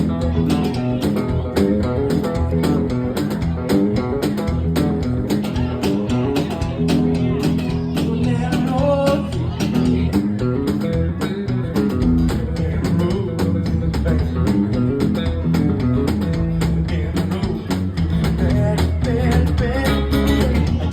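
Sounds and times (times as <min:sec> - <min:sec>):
bass line: 0:00.0 - 0:20.9
electric guitar: 0:00.0 - 0:20.9
steady drum beat: 0:00.0 - 0:20.9.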